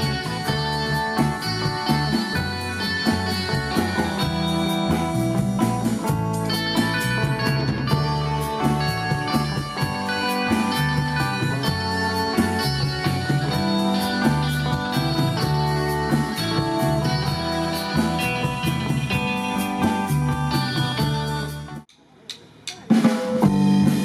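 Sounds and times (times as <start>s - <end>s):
bass guitar: 0.0s - 21.9s, 23.2s - 24.0s
electric guitars: 0.0s - 21.9s, 22.9s - 24.0s
drum kit cymbal beat: 0.0s - 24.0s.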